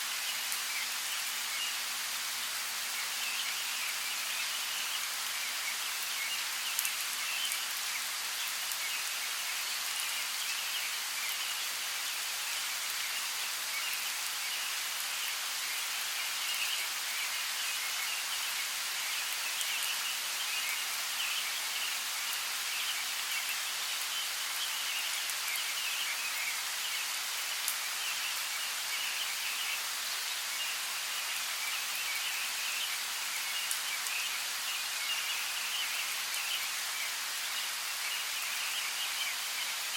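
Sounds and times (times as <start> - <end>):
steady rainfall in a forest: 0.0 - 39.9.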